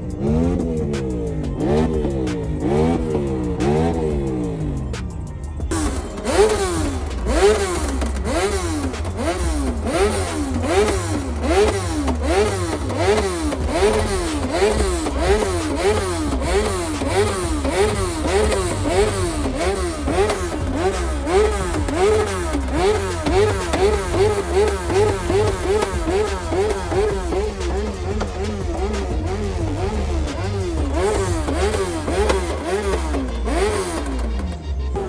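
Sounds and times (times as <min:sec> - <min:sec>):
engine revving in throttle blips: 0:00.0 - 0:35.0.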